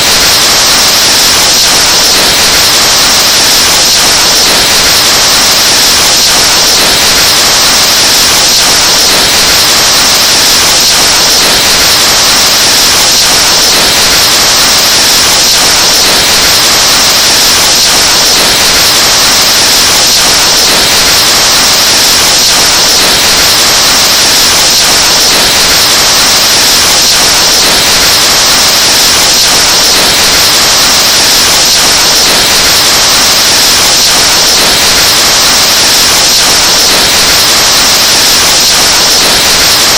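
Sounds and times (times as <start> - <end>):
distorted breath hiss into microphone: 0.0 - 39.9.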